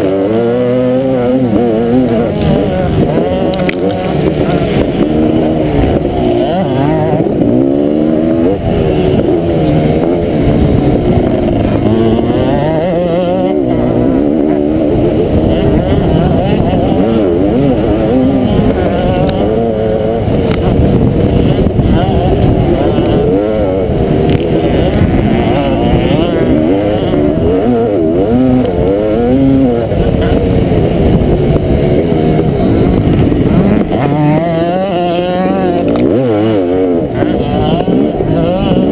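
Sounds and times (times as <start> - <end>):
two-stroke motocross engine revving: 0.0 - 38.9.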